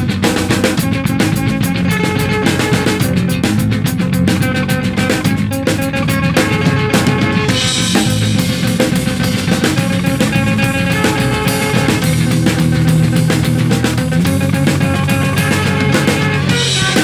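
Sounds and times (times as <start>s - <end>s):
bass guitar played percussively: 0.0s - 17.0s.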